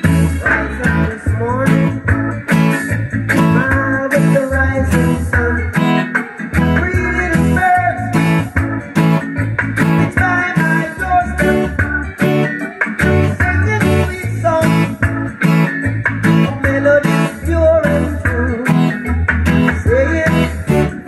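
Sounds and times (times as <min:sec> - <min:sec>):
deep bass line: 0:00.0 - 0:05.9, 0:06.5 - 0:21.0
acoustic guitar strumming reggae rhythm: 0:00.0 - 0:21.0.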